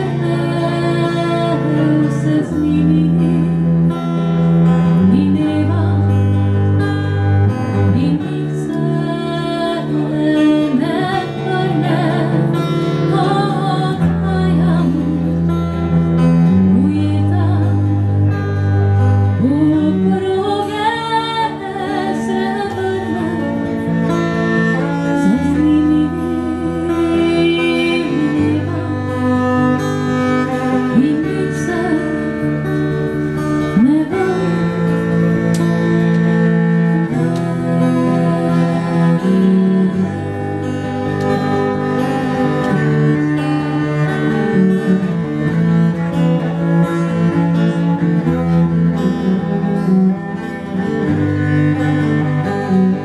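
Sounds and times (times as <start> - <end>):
acoustic guitar: 0.0 - 53.0
bowed cello: 0.0 - 53.0.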